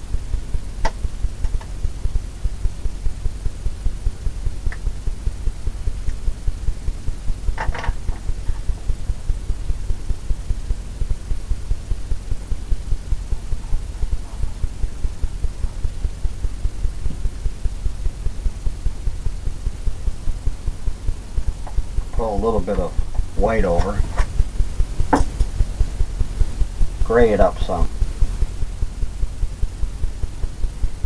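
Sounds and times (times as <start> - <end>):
low rhythmic throbbing hum: 0.0 - 31.0.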